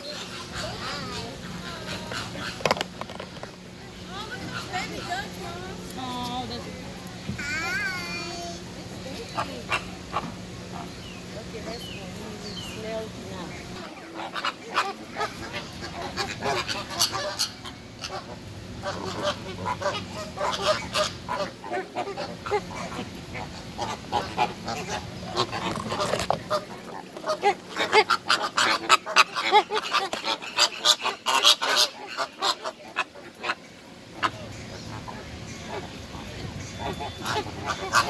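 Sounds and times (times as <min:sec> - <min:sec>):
flamingos honking: 0:00.0 - 0:06.5, 0:08.9 - 0:38.0.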